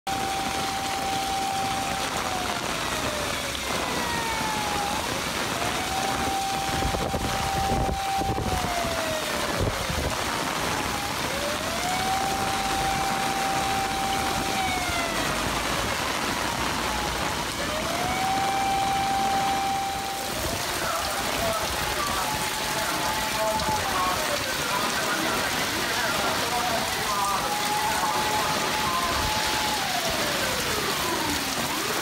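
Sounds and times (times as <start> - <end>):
rain and floodwater rushing: 0.0 - 32.0
vehicle wading through water: 0.1 - 32.0
wailing siren: 0.1 - 32.0.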